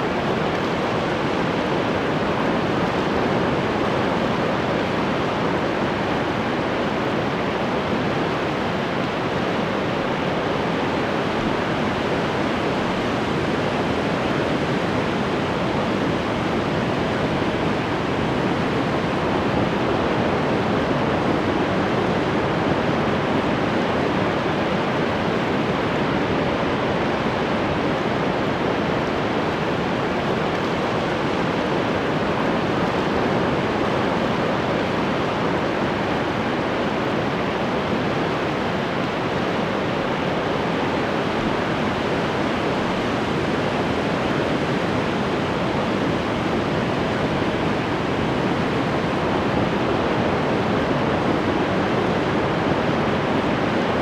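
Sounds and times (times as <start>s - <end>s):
ocean waves washing on shore: 0.0s - 54.0s.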